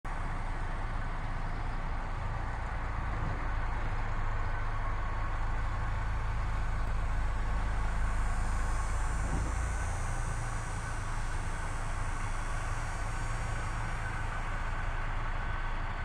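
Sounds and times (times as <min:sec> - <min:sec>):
low engine drone: 0:00.1 - 0:16.0
outdoor background noise: 0:00.1 - 0:16.0.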